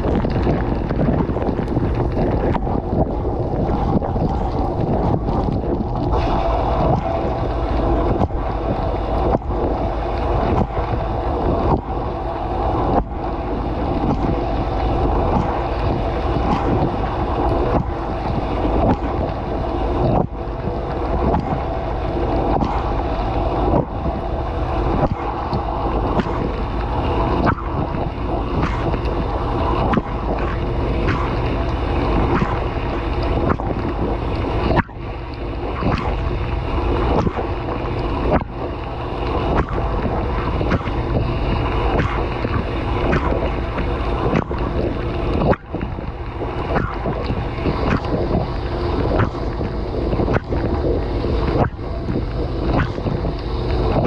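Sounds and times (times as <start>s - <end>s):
rhythmic spray swish: 2.8s - 54.0s.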